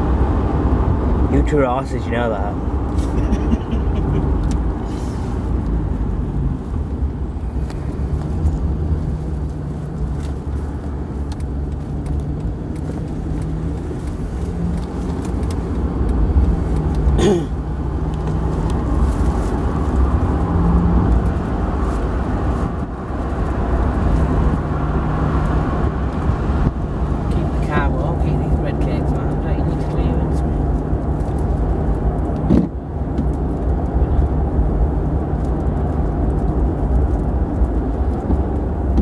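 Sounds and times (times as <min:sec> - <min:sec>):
car driving rumble: 0:00.0 - 0:39.0.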